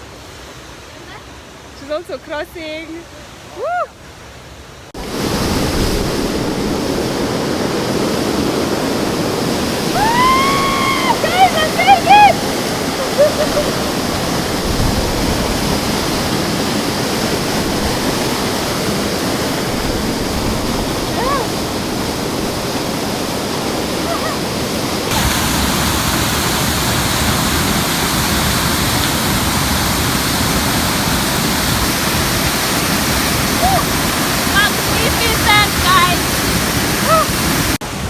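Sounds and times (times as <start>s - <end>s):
waterfall and stream rushing: 0.0s - 38.0s.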